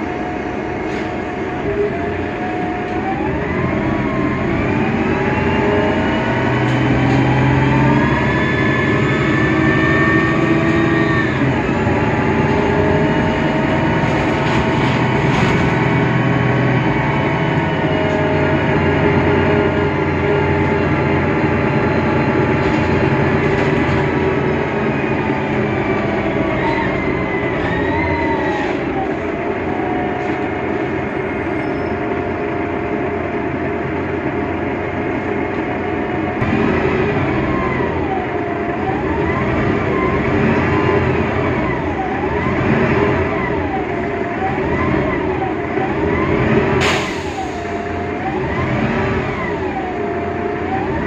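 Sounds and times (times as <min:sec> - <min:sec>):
bus diesel engine drone: 0:00.0 - 0:51.0.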